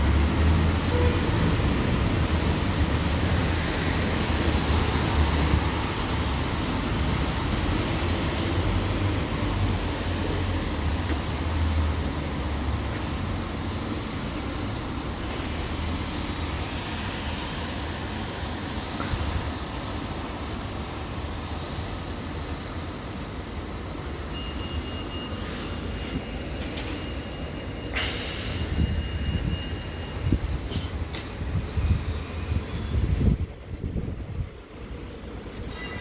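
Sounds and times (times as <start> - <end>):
traffic on wet street: 0.0 - 36.0.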